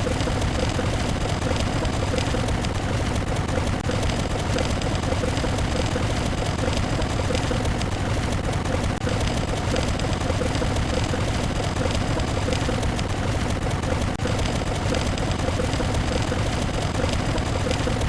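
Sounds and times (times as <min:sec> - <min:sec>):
overlapping sound effects: 0:00.0 - 0:18.0.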